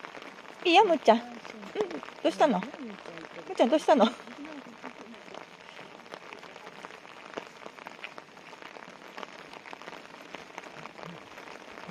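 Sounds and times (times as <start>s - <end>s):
light rain falling: 0.0s - 11.9s.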